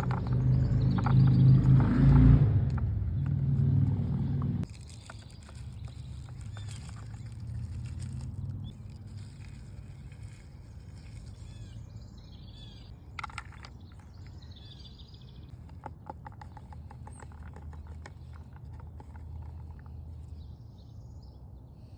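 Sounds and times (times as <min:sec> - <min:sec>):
small birds chirping: 0:00.0 - 0:02.2, 0:04.6 - 0:21.9.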